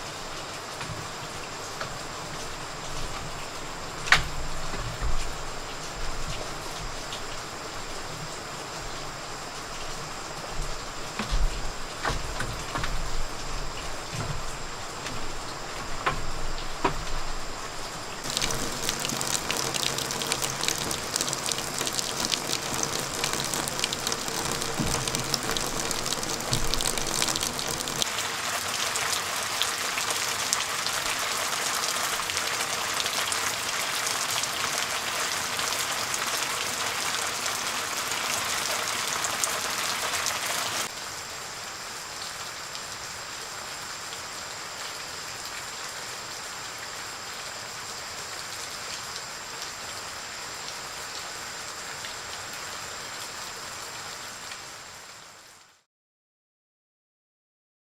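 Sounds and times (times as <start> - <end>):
rain falling on a surface: 0.0 - 55.9.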